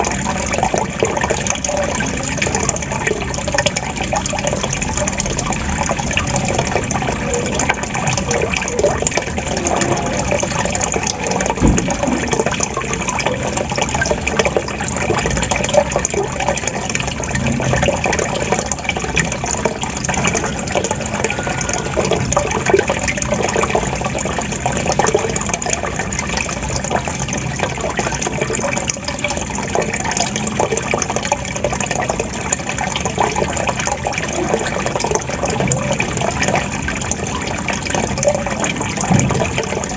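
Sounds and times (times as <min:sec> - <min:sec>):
water gurgling and trickling: 0:00.0 - 0:39.9.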